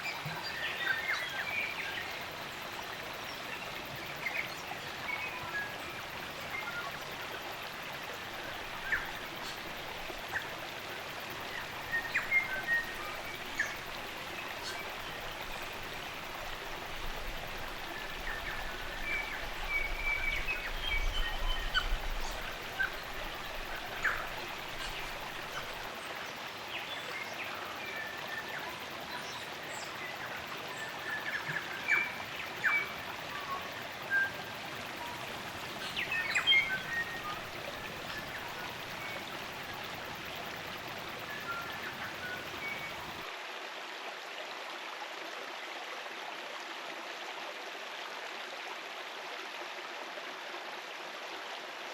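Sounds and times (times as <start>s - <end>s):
stream running water: 0.0s - 51.9s.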